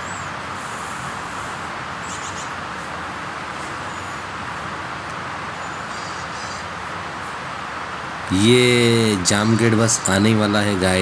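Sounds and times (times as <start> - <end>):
motorcycle road noise: 0.0 - 11.0
rushing wind: 0.0 - 11.0.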